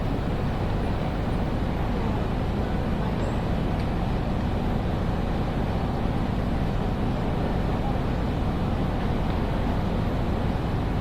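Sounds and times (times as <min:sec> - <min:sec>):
murmur of distant voices: 0:00.0 - 0:11.0.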